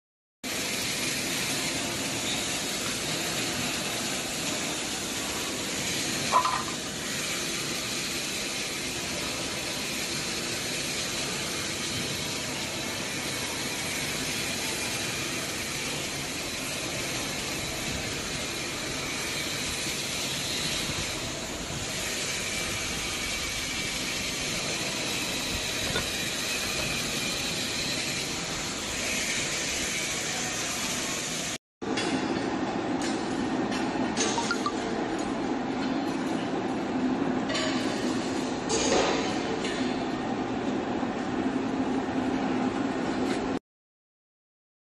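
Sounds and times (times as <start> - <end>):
factory machinery hum: 0.5 - 43.6.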